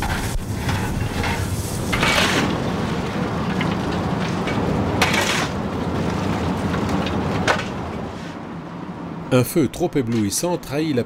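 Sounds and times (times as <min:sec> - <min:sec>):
steam engine rumble: 0:00.0 - 0:10.6.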